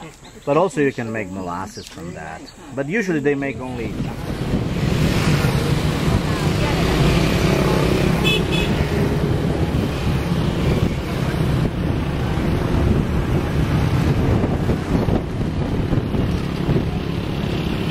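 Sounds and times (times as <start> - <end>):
wind noise on microphone: 3.5 - 17.9.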